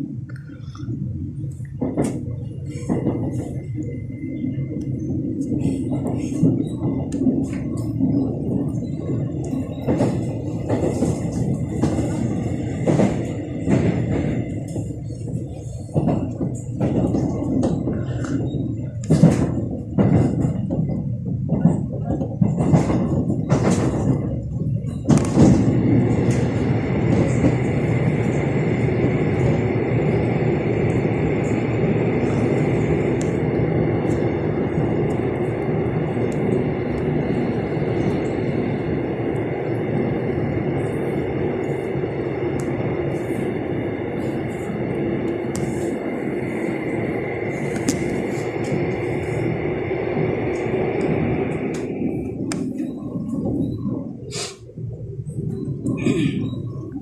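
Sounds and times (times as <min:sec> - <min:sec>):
train running roar: 0:00.0 - 0:57.0
train wheels clacking over track: 0:01.4 - 0:56.9.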